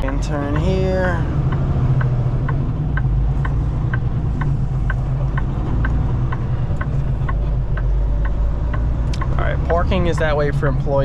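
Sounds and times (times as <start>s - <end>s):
diesel engine rumble: 0.0s - 11.0s
turn-signal relay ticking: 0.0s - 11.0s.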